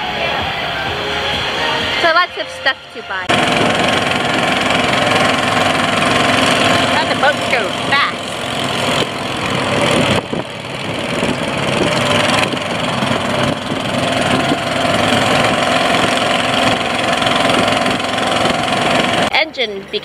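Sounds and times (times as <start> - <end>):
boat motor droning: 0.0 - 19.4.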